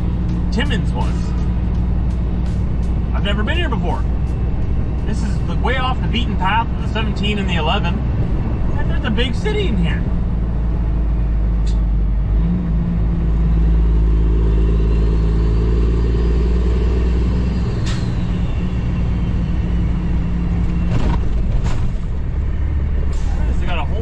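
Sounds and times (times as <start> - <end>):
diesel truck engine rumble: 0.0 - 24.0.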